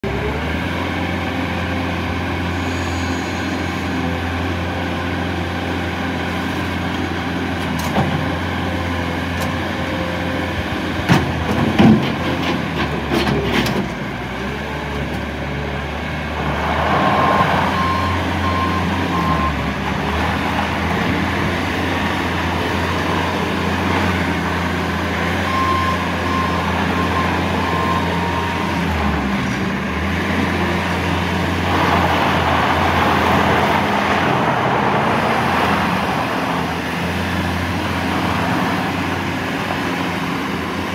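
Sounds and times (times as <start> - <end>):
diesel loader engine running: 0.0 - 40.9
loader driving on gravel: 0.0 - 40.9.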